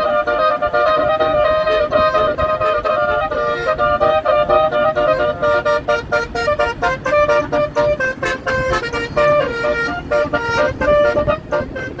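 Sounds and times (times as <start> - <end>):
bus horn playing melody: 0.0 - 12.0.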